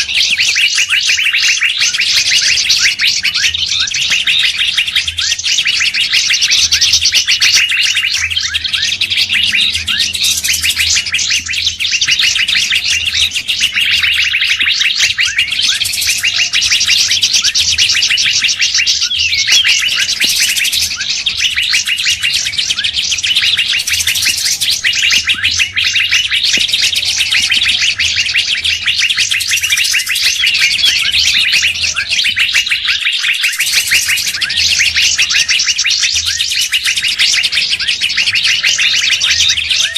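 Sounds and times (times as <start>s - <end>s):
many songbirds chirping: 0.0s - 39.9s.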